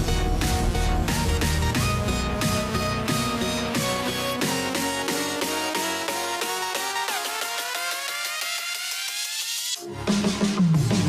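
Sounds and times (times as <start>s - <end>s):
electronic music with plucked notes: 0.0s - 11.0s.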